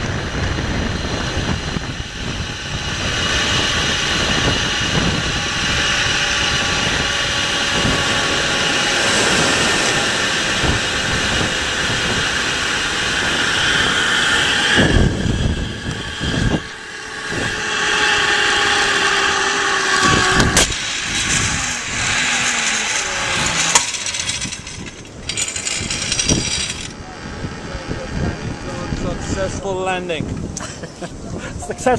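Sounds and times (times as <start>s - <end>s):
wind on microphone: 0.0s - 31.9s
zipline trolley whirring: 0.0s - 31.9s.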